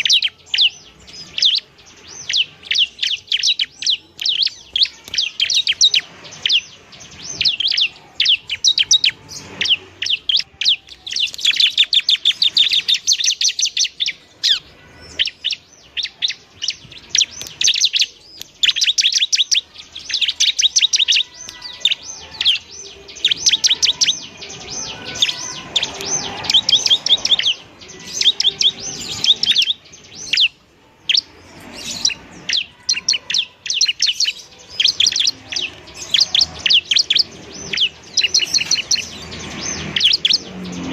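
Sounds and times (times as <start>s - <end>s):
bird singing rapid sharp chirps: 0.0s - 40.9s.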